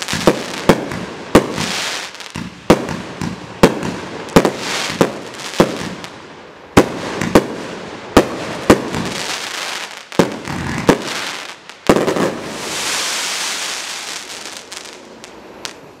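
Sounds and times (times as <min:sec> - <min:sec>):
firework bangs: 0:00.0 - 0:06.1, 0:06.7 - 0:16.0.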